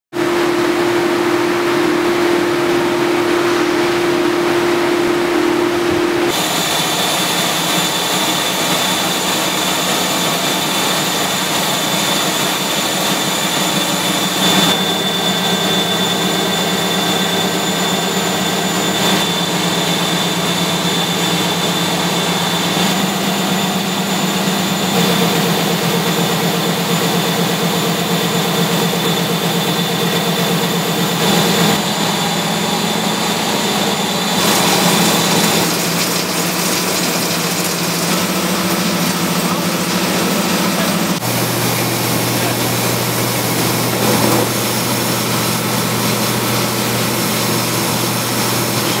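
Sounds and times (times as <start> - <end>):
printing press mechanical din: 0.2 - 49.0
steady high whine: 0.2 - 49.0.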